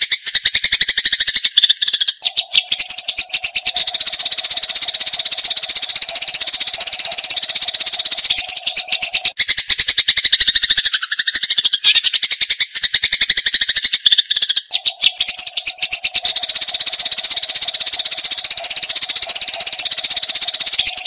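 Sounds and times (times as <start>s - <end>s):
sparrows chattering: 0.0s - 21.0s.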